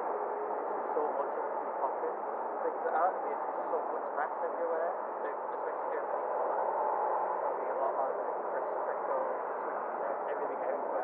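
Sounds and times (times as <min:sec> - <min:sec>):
faint garbled radio voices: 0:00.0 - 0:11.0.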